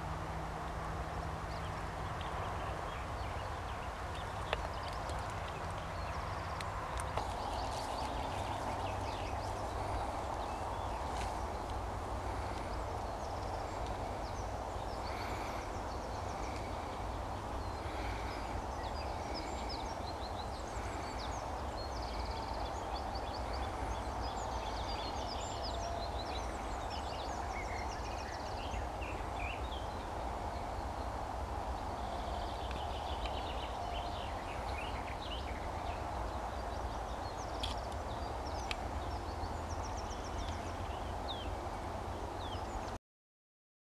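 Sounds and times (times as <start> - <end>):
wind rumble on microphone: 0.0 - 43.0
birds chirping: 1.0 - 43.0.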